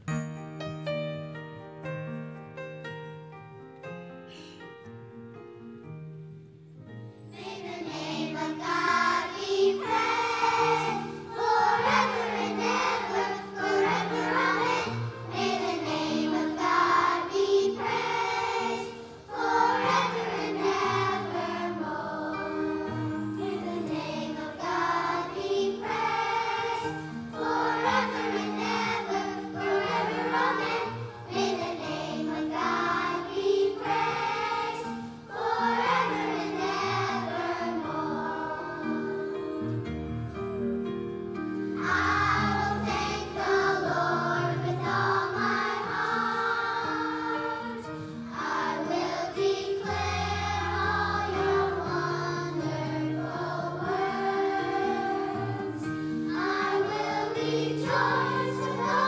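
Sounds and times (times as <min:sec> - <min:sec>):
children's choir singing a hymn: 0:07.1 - 0:40.0, 0:41.6 - 0:59.0.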